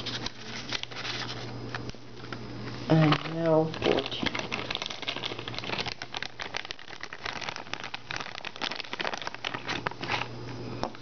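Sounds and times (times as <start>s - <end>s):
plastic bag crinkling: 0.0s - 1.8s, 2.9s - 10.4s.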